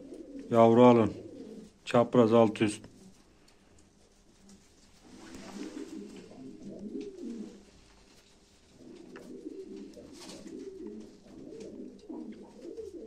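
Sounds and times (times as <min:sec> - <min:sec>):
pigeons cooing: 0:00.0 - 0:03.4, 0:04.0 - 0:13.0.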